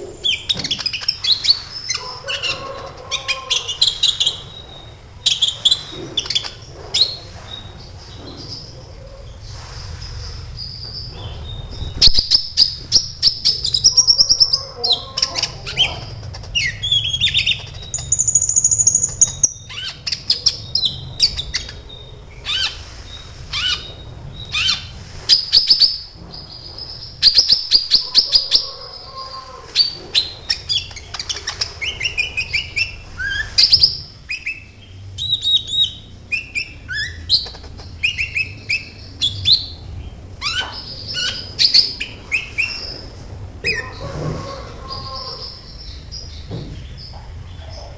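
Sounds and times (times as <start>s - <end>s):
sunbird singing: 0.0s - 47.9s.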